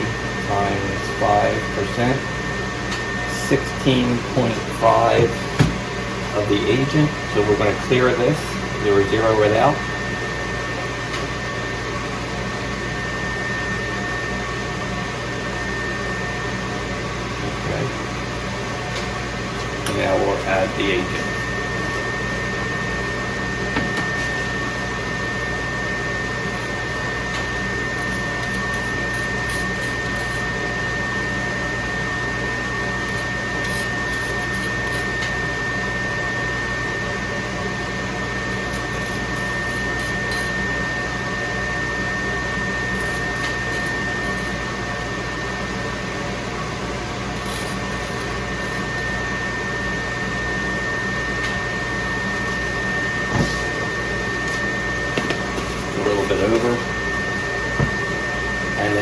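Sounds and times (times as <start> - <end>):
high-pitched whine: 0.0 - 18.1, 19.0 - 59.0
mechanical hum and hiss: 0.0 - 59.0.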